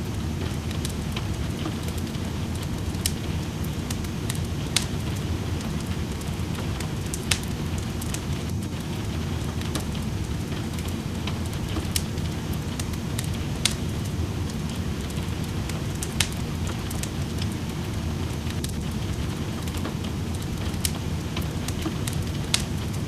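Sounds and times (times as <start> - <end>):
rain rushing: 0.0 - 23.0
wood fire crackling and popping: 0.0 - 23.0.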